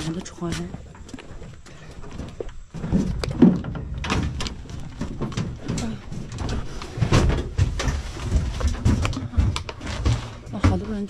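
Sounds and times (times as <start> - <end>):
knocks and clatters of luggage: 0.0 - 11.0.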